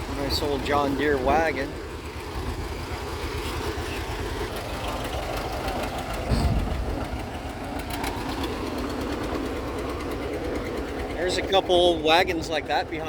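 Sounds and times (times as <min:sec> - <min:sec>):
engine idling with low chugging: 0:00.0 - 0:13.0.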